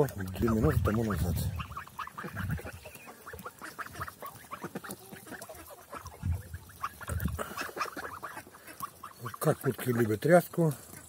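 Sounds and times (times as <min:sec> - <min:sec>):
geese soft calls: 0:00.0 - 0:11.0.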